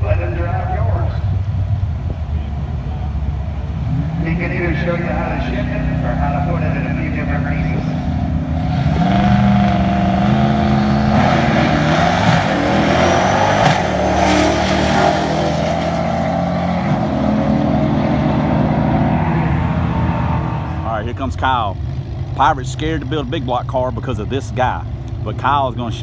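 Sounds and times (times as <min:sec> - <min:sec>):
drag car engines running: 0:00.0 - 0:26.0.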